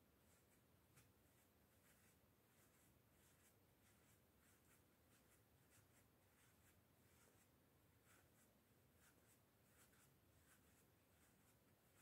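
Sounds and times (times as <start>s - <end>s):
soft rustling of stuffing: 0.0s - 12.0s.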